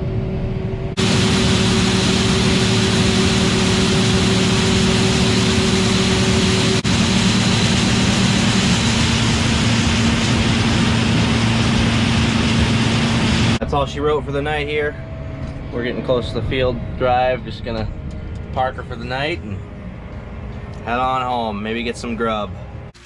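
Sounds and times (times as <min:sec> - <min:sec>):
tractor diesel engine running: 0:00.9 - 0:20.8.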